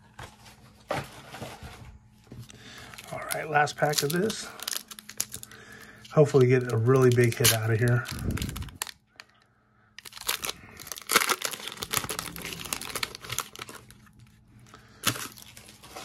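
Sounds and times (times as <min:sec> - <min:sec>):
foil wrapper tearing and crinkling: 0:02.6 - 0:09.4, 0:10.0 - 0:16.0.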